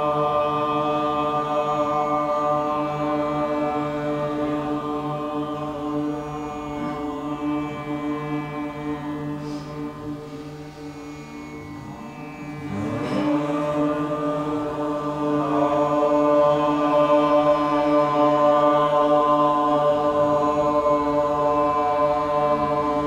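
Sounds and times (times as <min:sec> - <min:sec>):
group of voices chanting drone: 0:00.0 - 0:10.8, 0:12.6 - 0:23.0.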